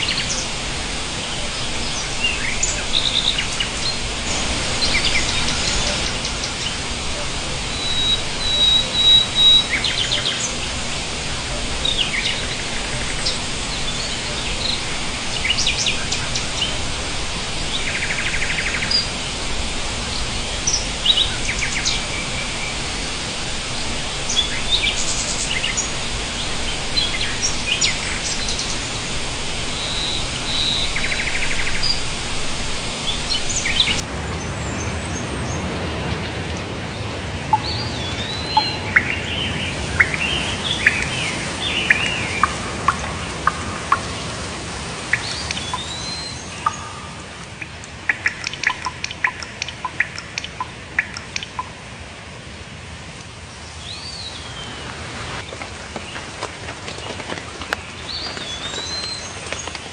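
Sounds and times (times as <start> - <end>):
birds chirping and trilling: 0.0 - 51.8
steady background hiss: 0.0 - 59.9.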